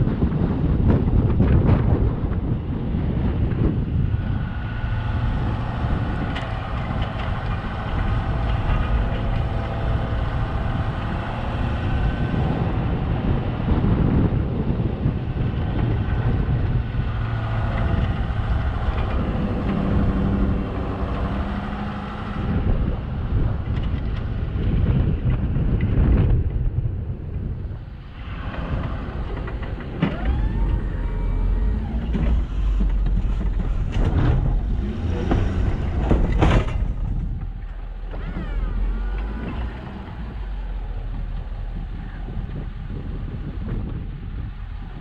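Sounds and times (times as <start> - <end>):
low rumble: 0.0 - 45.0
truck engine running: 0.0 - 45.0
wind buffeting microphone: 0.0 - 45.0.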